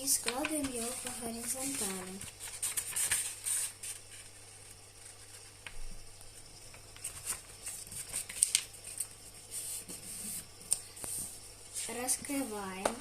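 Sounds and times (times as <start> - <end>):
paper rustling and creasing: 0.0 - 12.6.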